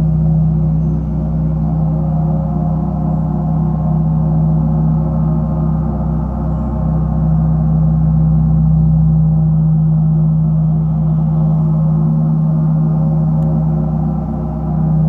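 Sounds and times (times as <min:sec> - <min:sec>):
gong drone with shimmering overtones: 0:00.0 - 0:15.0.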